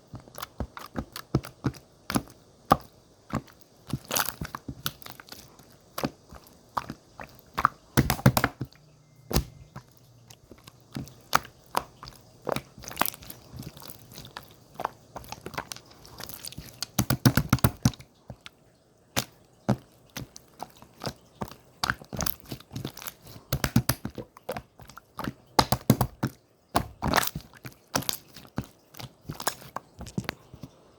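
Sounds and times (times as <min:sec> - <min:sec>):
slime squished by hand: 0:00.1 - 0:18.5, 0:19.1 - 0:30.8.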